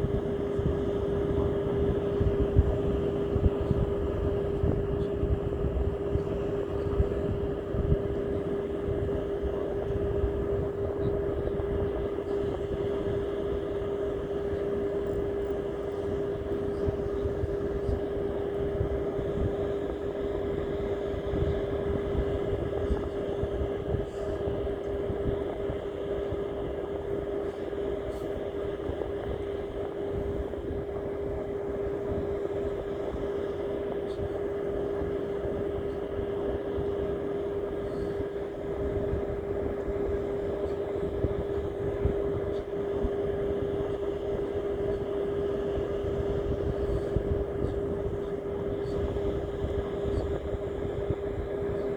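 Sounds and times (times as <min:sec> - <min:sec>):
engine running steadily: 0:00.0 - 0:51.9
low rumbling noise: 0:00.0 - 0:51.9.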